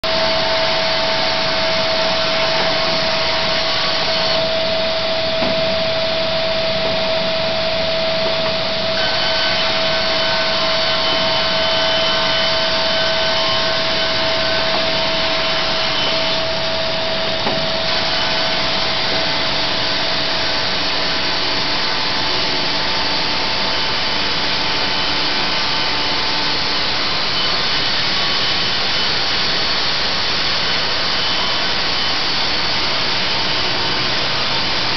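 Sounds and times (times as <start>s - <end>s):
sawmill blade cutting board: 0.0s - 34.9s.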